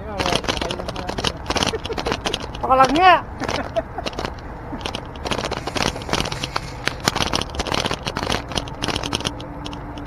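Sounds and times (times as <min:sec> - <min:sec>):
bike rattling clicks: 0:00.0 - 0:10.0
bike tyres humming on asphalt: 0:00.0 - 0:10.0
wind rumbling on microphone: 0:00.2 - 0:10.0.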